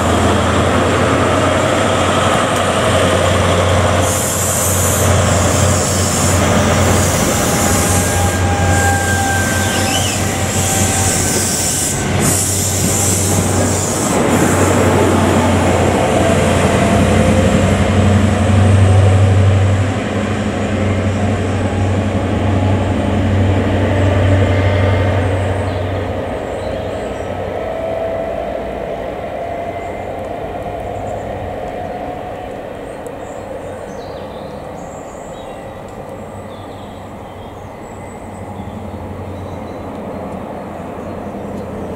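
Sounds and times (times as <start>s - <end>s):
diesel engines droning: 0.0s - 41.9s
wheel-on-rail noise: 0.0s - 41.9s.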